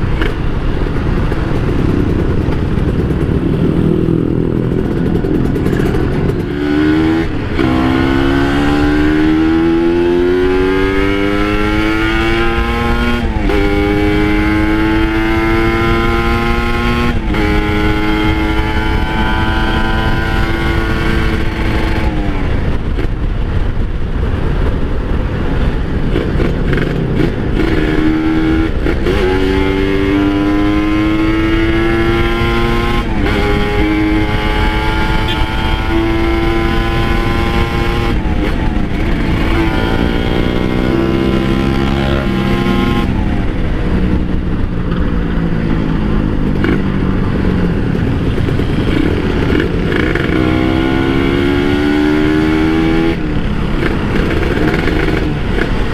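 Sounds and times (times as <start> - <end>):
motorcycle engine accelerating: 0.0 - 55.9
rushing noise: 0.0 - 55.9.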